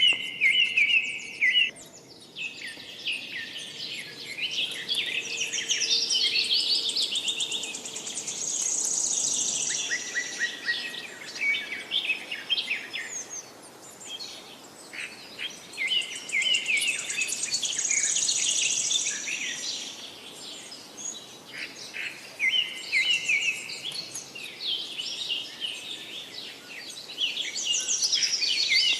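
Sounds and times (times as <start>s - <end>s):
songbirds chorus: 0.0s - 28.9s.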